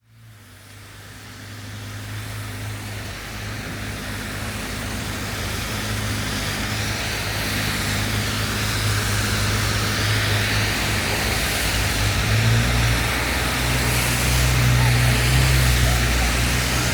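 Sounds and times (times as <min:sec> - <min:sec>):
low engine hum: 0:00.0 - 0:16.9
traffic on wet road: 0:00.0 - 0:16.9
rain hiss: 0:00.1 - 0:16.9.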